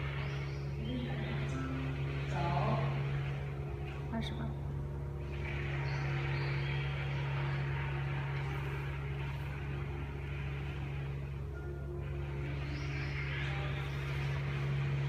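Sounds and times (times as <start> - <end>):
low hum: 0.0 - 15.0
room noise hiss: 0.0 - 15.0.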